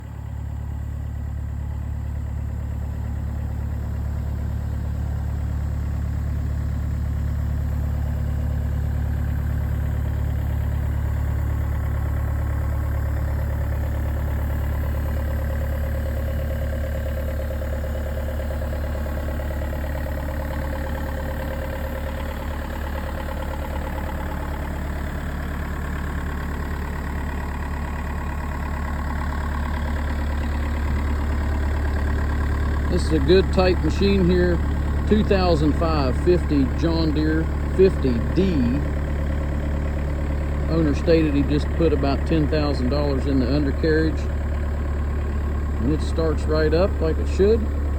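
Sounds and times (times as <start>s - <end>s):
excavator diesel engine idling: 0.0s - 47.9s.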